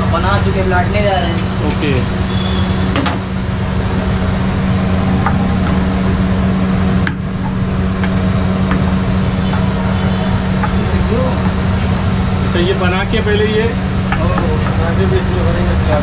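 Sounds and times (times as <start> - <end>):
loud machine drone: 1.5 - 16.0.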